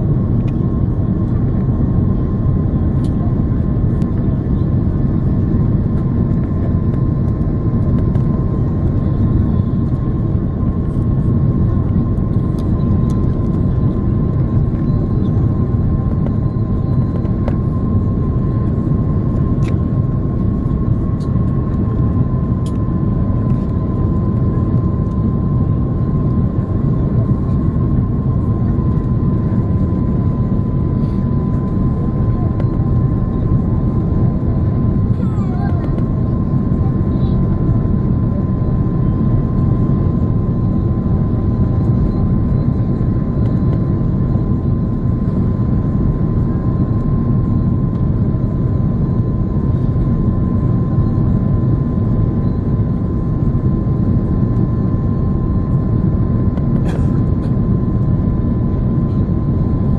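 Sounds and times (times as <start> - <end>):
airplane cabin engine roar: 0.0 - 59.9
jet engine whine: 0.0 - 59.9.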